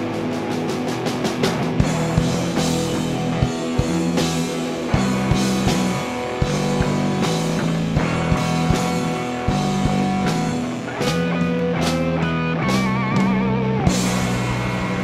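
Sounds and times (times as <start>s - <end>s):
drum kit: 0.0s - 15.0s
electric guitar: 0.0s - 15.0s
keyboard: 0.0s - 15.0s.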